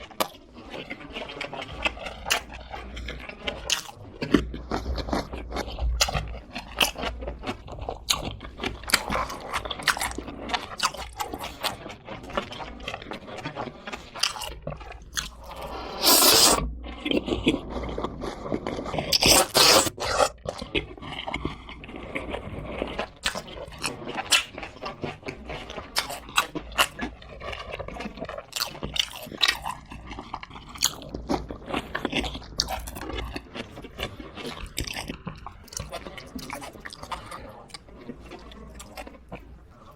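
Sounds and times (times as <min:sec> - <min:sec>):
crunching and chewing fried chicken: 0:00.0 - 0:39.9.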